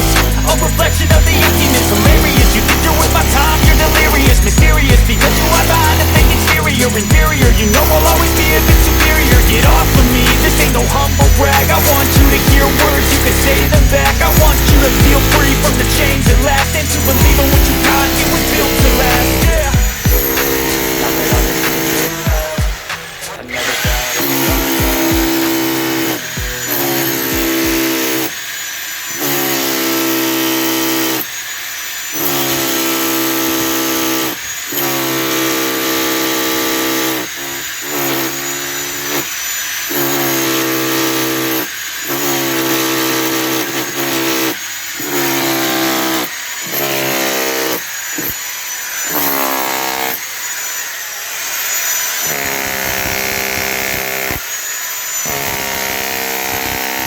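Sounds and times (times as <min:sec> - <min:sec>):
electric power tool whining: 0:00.0 - 0:57.0.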